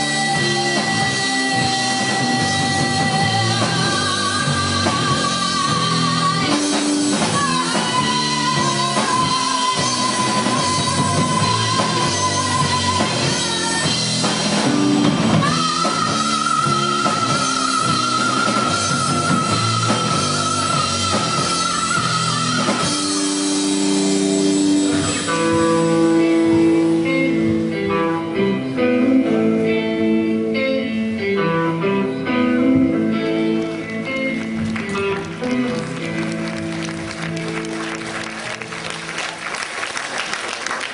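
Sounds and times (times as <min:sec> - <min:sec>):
live rock band playing: 0:00.0 - 0:40.9
picked guitar figure: 0:00.3 - 0:39.1.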